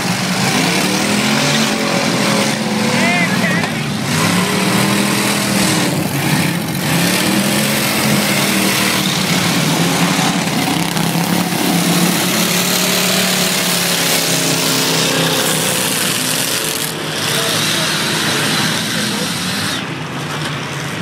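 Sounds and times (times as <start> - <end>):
loud rushing noise: 0.0 - 21.0
race car engines: 0.0 - 21.0.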